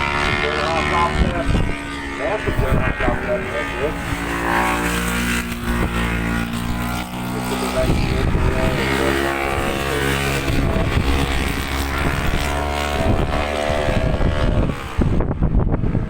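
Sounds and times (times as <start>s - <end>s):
racing motorcycles passing: 0.0s - 16.0s
wind buffeting microphone: 0.0s - 16.0s.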